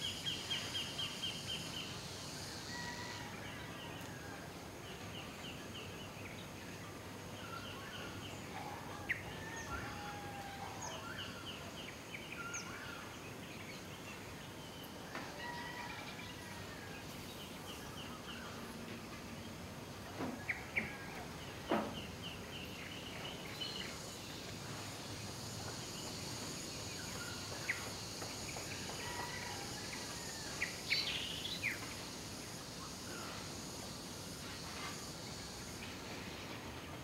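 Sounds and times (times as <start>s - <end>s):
background hiss: 0.0s - 37.0s
high insect drone: 0.0s - 37.0s.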